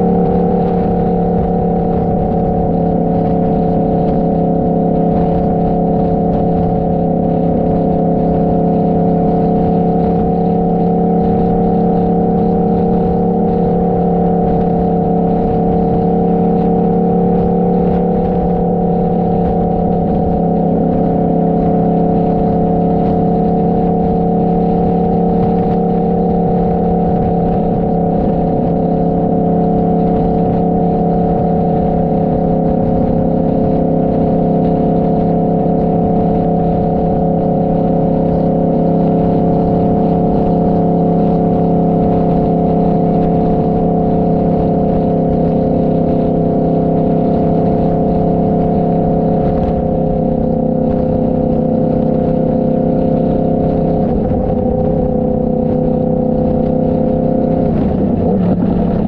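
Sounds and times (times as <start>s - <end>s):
motorcycle engine cruising: 0.0s - 59.0s
wind noise: 0.0s - 59.0s.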